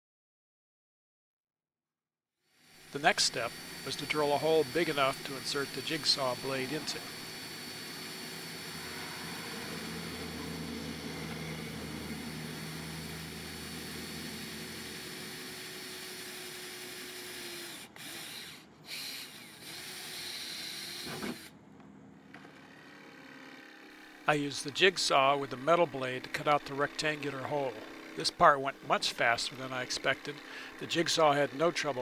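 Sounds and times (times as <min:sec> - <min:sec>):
cordless drill whining: 0:02.6 - 0:21.5, 0:22.3 - 0:24.2, 0:25.3 - 0:32.0.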